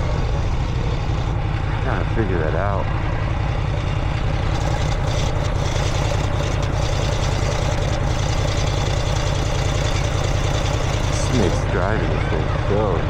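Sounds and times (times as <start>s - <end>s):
motorcycle engine running: 0.0s - 13.0s
wheel rubbing noise: 0.0s - 13.0s.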